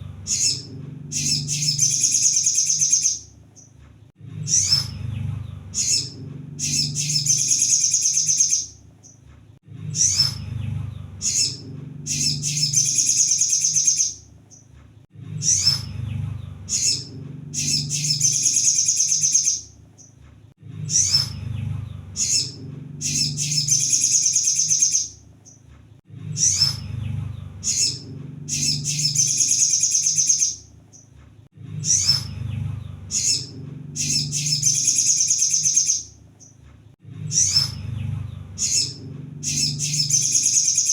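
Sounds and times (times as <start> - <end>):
low background hum: 0.0 - 40.9
bird twittering trill: 0.1 - 3.8, 4.4 - 9.2, 9.9 - 14.7, 15.4 - 20.2, 20.9 - 25.6, 26.4 - 31.1, 31.8 - 36.6, 37.3 - 40.9.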